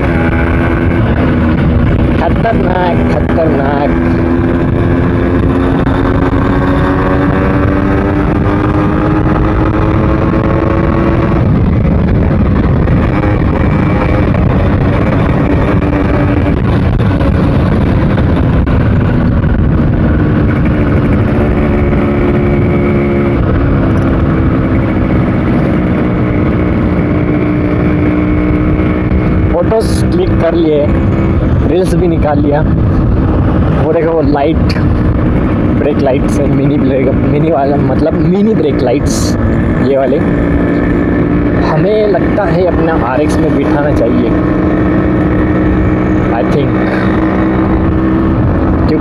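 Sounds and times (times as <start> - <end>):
two-stroke motorcycle engine running: 0.0 - 49.0.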